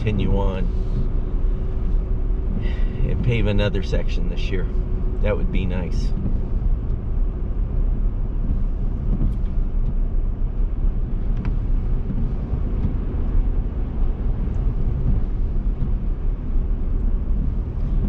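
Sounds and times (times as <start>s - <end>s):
pickup truck engine rumble: 0.0s - 18.0s.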